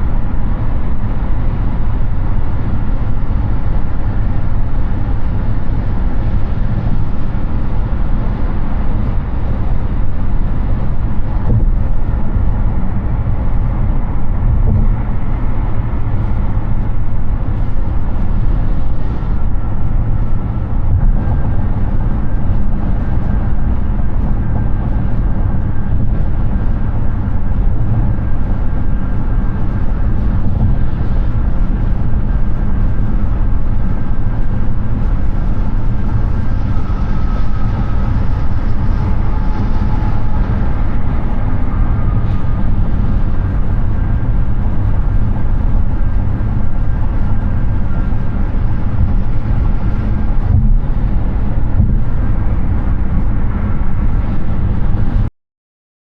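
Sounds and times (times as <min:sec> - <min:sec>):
tyre and wind road noise: 0:00.0 - 0:55.3.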